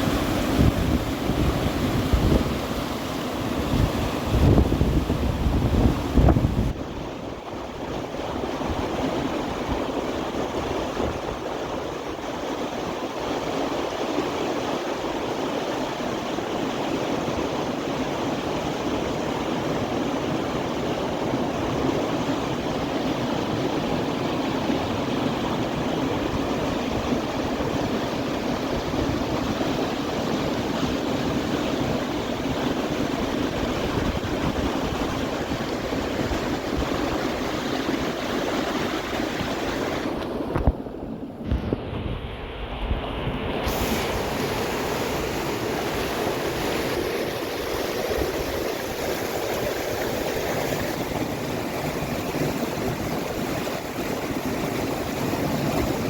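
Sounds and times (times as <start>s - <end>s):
water rushing over rapids: 0.0s - 56.0s.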